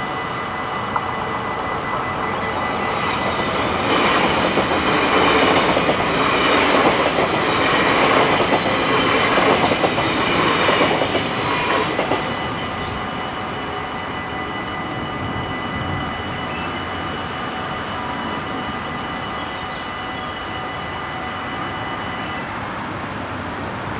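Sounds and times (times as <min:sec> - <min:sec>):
train wheels on rails: 0:00.0 - 0:23.9.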